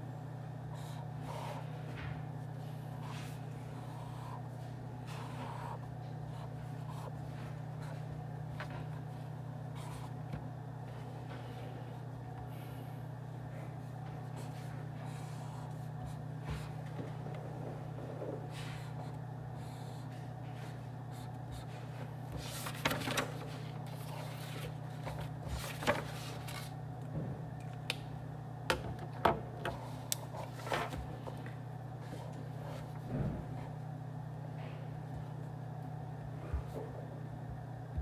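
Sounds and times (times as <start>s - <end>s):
ventilation hum: 0.0s - 38.0s.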